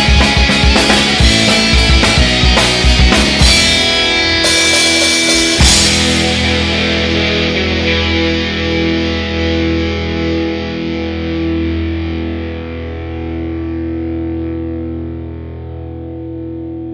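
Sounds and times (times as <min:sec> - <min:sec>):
distorted electric guitar chord: 0:00.0 - 0:16.9.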